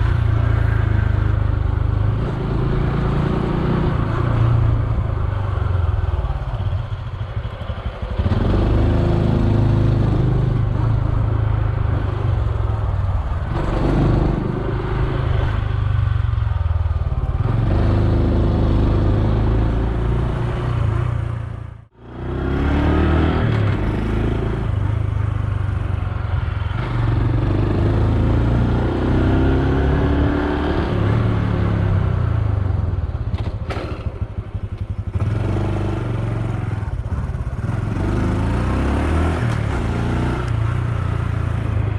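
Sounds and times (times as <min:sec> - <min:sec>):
motorcycle engine accelerating: 0:00.0 - 0:41.9
road and wind noise: 0:00.0 - 0:41.9.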